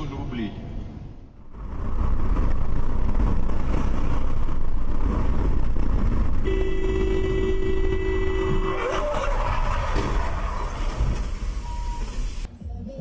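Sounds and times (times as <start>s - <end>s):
car road and engine rumble: 0.0s - 12.6s.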